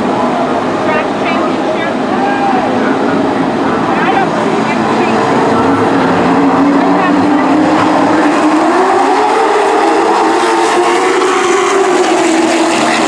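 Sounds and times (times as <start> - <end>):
racing truck engines accelerating: 0.0 - 13.0.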